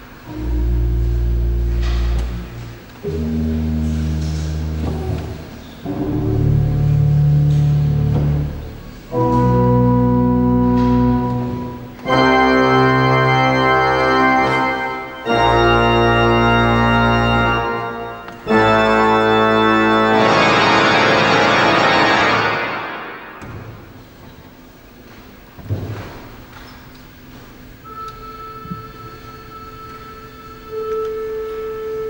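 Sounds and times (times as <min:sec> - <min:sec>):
pipe organ chords: 0:00.0 - 0:24.2, 0:27.8 - 0:32.0.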